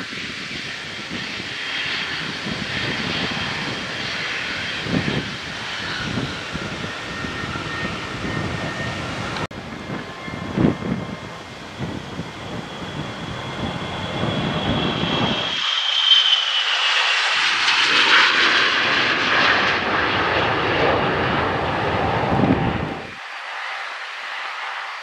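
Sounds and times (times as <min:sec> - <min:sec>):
jet engine high whine: 0:00.0 - 0:25.0
jet engine rush: 0:00.0 - 0:25.0.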